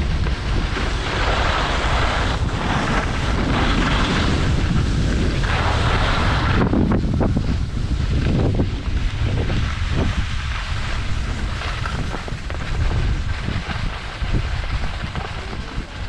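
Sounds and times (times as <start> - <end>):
ski edges hissing on snow: 0.0 - 16.0
wind rushing over microphone: 0.0 - 16.0.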